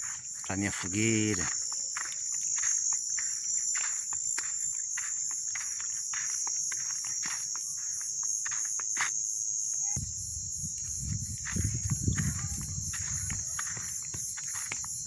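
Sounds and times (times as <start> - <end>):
crickets and insects chirring: 0.0 - 15.0.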